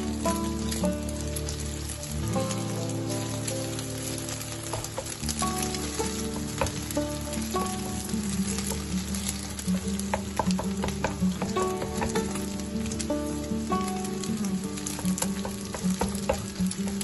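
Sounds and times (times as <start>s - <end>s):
background music: 0.0s - 17.0s
eggs sizzling in pan: 0.0s - 17.0s.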